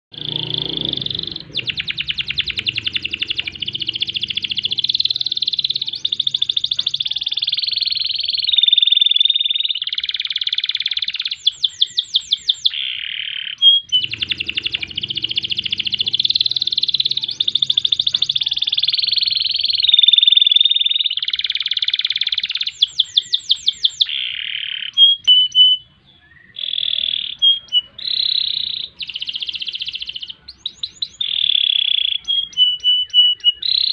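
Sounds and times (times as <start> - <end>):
canary singing: 0.1 - 33.9.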